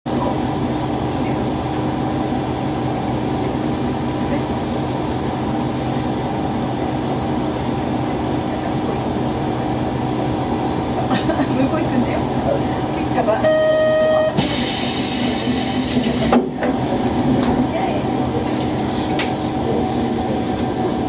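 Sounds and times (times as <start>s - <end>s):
diesel railcar engine running: 0.1s - 21.0s.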